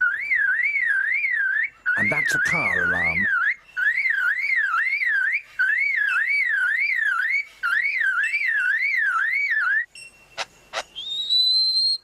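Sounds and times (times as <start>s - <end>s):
lyrebird mimicking car alarm: 0.0s - 9.8s.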